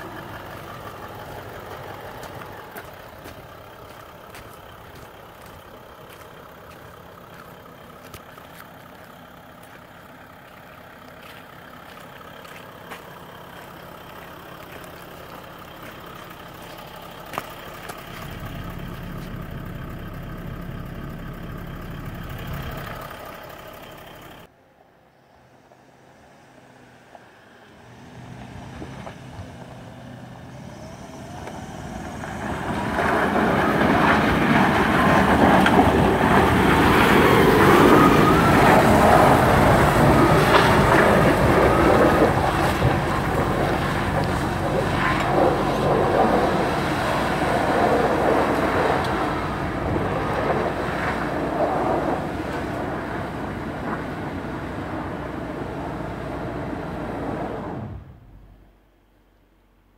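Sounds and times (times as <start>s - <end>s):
tyres crunching over gravel: 0.0s - 24.5s, 31.3s - 56.0s
vehicle engine climbing: 0.0s - 24.6s, 25.2s - 59.9s.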